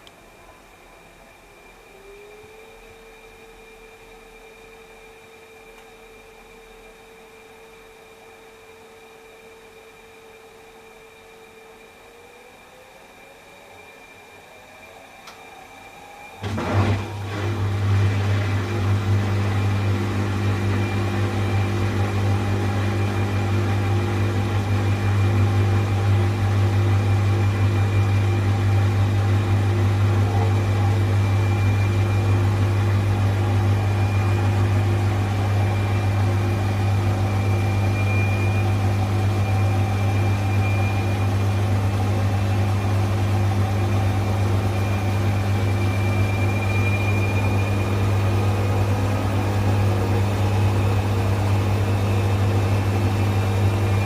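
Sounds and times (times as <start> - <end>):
mechanical hum with high whine: 0.0 - 54.0.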